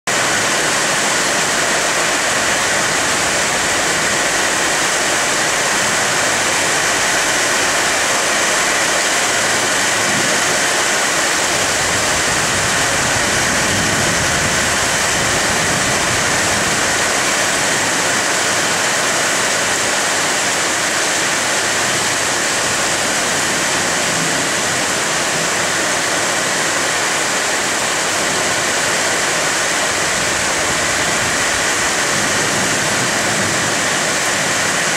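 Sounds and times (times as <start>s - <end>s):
rain falling on leaves: 0.1s - 34.9s.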